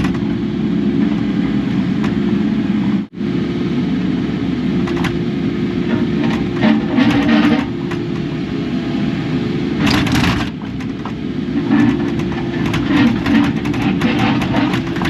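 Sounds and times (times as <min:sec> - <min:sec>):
excavator whining: 0:00.0 - 0:15.0.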